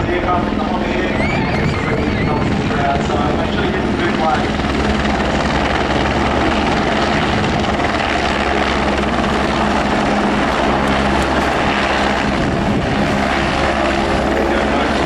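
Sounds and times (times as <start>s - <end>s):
helicopter rotors and turbines: 0.0s - 15.0s.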